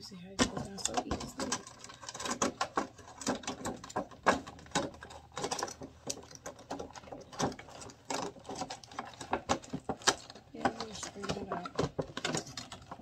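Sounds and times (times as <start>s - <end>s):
crinkly plastic rustles: 0.0s - 13.0s.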